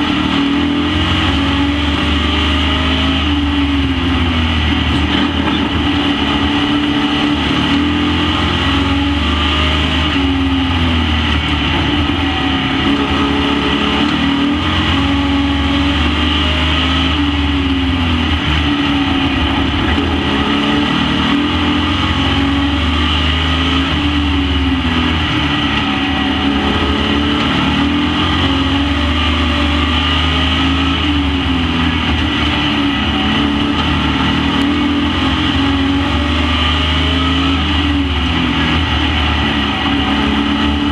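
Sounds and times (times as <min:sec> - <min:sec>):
race truck engines: 0:00.0 - 0:40.9.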